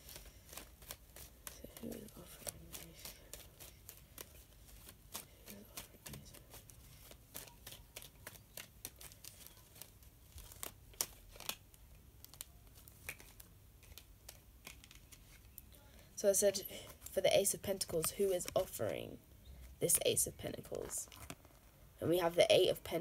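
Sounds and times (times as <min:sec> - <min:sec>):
cards being shuffled: 0:00.0 - 0:15.6, 0:16.8 - 0:22.7.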